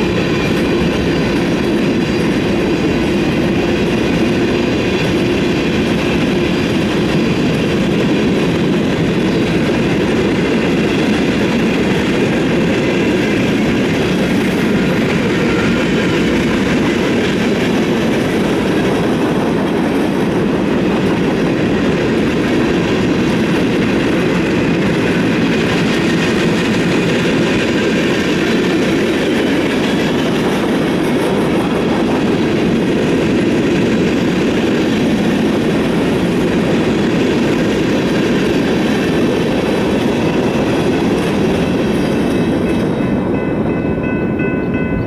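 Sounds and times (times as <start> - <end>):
freight train rumbling past: 0.0 - 45.0.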